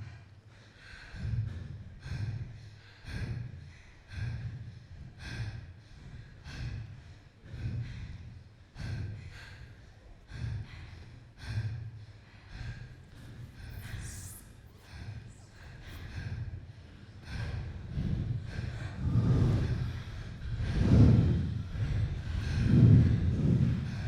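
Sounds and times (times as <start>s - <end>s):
heavy rhythmic breathing: 0.0s - 24.0s.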